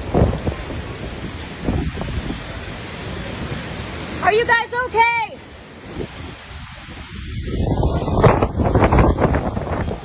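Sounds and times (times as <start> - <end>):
wind buffeting microphone: 0.0 - 5.0, 5.7 - 10.0.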